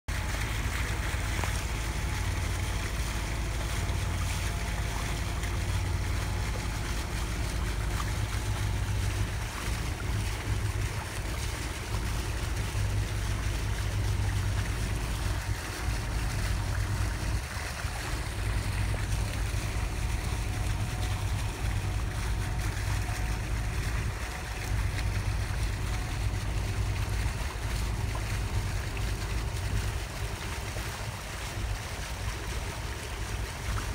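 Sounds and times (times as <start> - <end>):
low rumble: 0.1 - 33.9
water washing along hull: 0.1 - 33.9.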